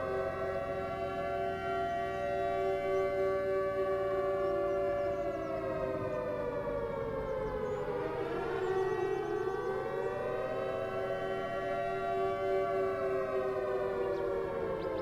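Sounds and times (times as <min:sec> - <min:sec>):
two-tone siren wailing: 0:00.0 - 0:15.0.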